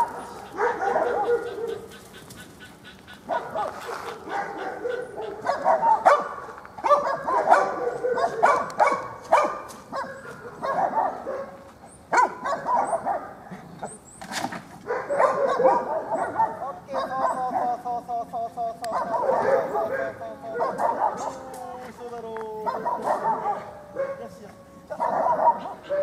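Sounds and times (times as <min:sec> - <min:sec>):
dog barking and yipping: 0:00.0 - 0:14.0, 0:14.8 - 0:17.8, 0:18.9 - 0:21.5, 0:22.7 - 0:24.3, 0:24.9 - 0:26.0.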